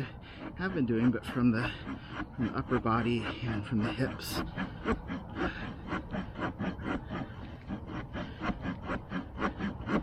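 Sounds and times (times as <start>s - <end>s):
saw blade cutting stick: 0.0s - 10.0s.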